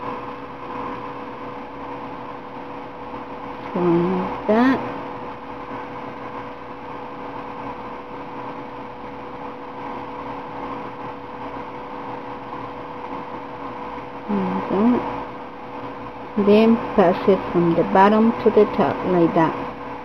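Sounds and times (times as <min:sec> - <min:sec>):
background hum and hiss: 0:00.0 - 0:20.0
constant tone: 0:00.0 - 0:20.0.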